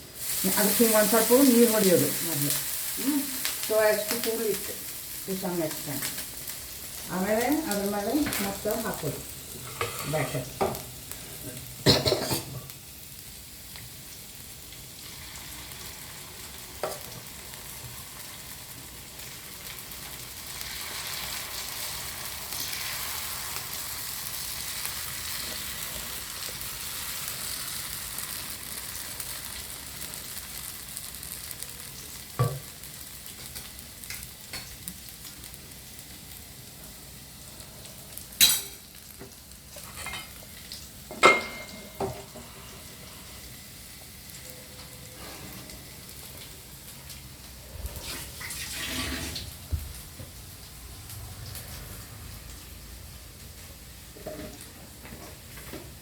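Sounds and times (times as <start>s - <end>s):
batter sizzling on a griddle: 0.0s - 56.0s.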